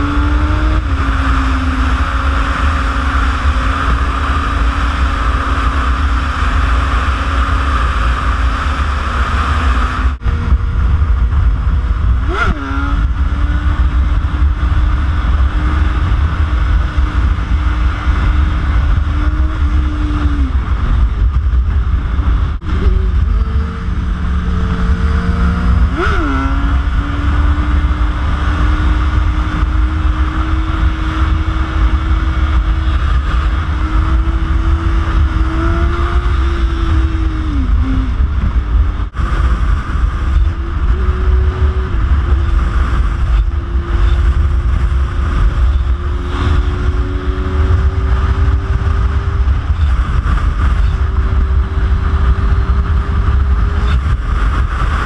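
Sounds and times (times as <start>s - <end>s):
heavy wind noise: 0.0s - 55.0s
motorcycle engine cruising: 0.0s - 55.0s.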